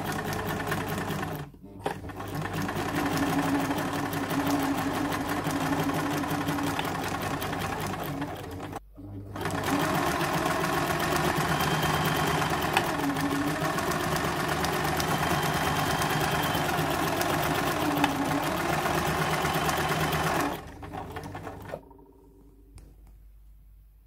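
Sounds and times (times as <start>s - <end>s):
sewing machine stitching: 0.0s - 21.8s.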